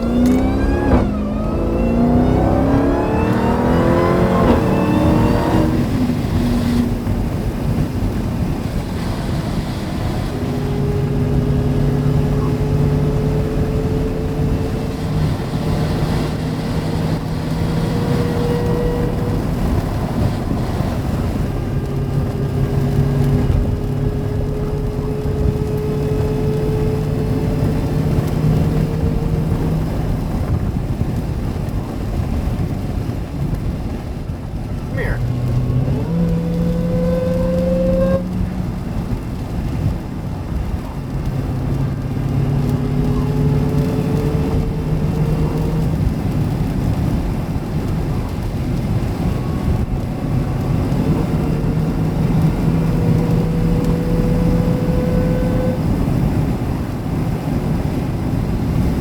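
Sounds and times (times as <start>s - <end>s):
supercharger whine: 0.0s - 32.6s, 33.3s - 59.0s
car engine accelerating hard: 0.0s - 59.0s
tyre and road noise: 0.0s - 59.0s.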